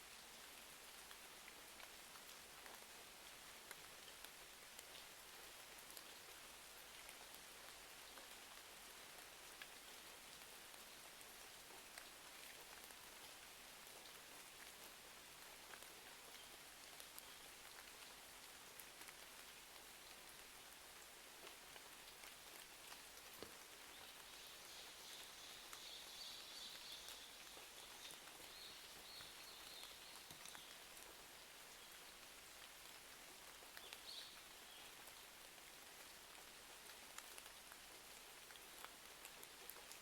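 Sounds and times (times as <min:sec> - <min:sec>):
faint steady rain: 0:00.0 - 0:40.0.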